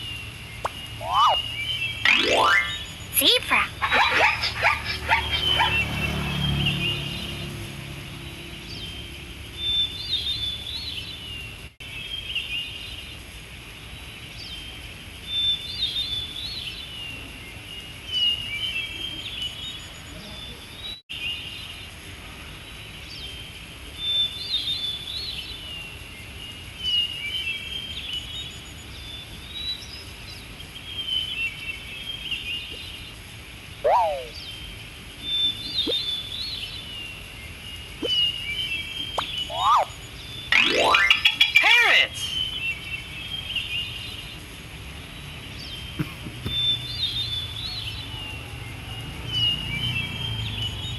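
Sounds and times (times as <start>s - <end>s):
songbird chirpy song: 0.0s - 50.9s.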